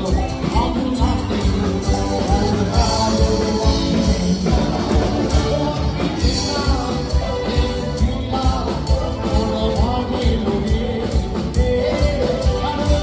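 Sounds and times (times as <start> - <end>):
live band playing: 0.0 - 13.0
person singing: 0.0 - 13.0
steady drum beat: 0.0 - 13.0.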